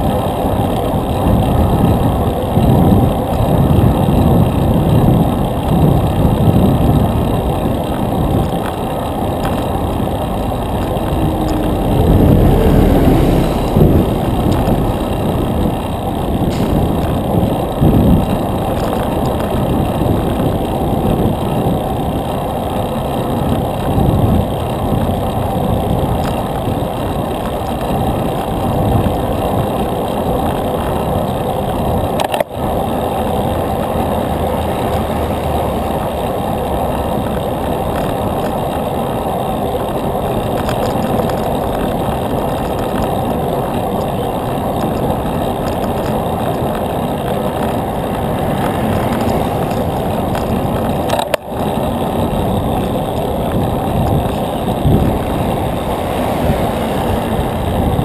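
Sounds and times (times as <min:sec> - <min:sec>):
road traffic: 0:00.0 - 0:58.0
wind buffeting microphone: 0:00.0 - 0:58.0.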